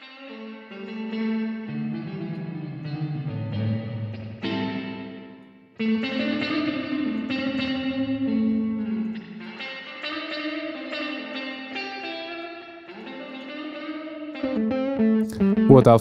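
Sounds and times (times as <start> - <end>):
electric guitar blues solo: 0.0 - 16.0.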